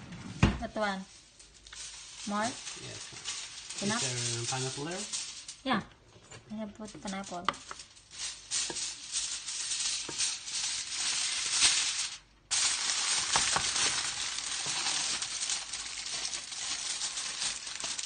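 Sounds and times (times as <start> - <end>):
aluminium foil crinkling: 0.7 - 18.0.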